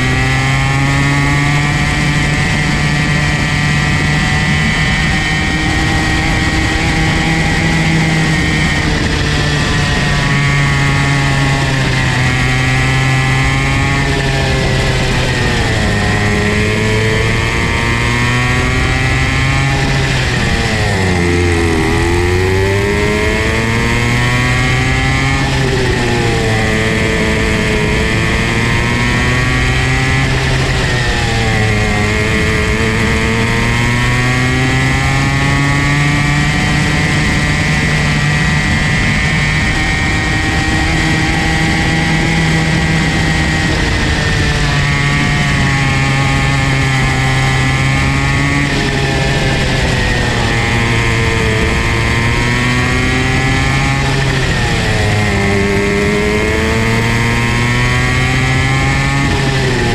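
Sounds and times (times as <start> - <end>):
kart engine running hard: 0.0 - 59.9.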